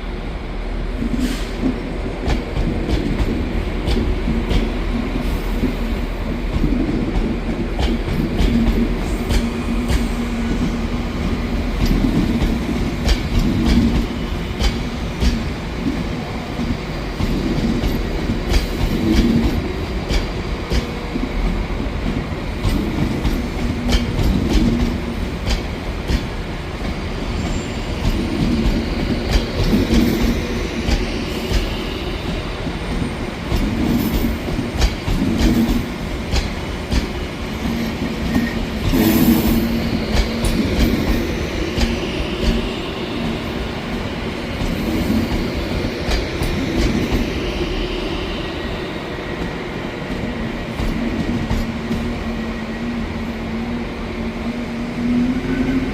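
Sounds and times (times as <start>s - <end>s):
train rumbling on rails: 0.0s - 55.9s.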